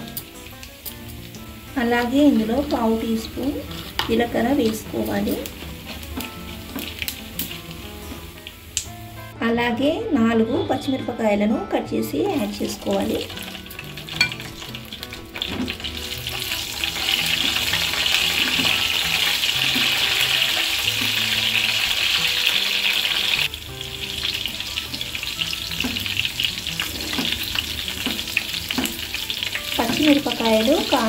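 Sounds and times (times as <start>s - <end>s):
chillies sizzling in hot oil: 0.0s - 9.4s, 11.9s - 31.0s.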